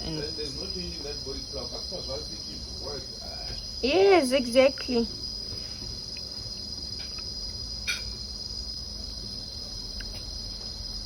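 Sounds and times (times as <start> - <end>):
high-pitched insect trilling: 0.0 - 11.0.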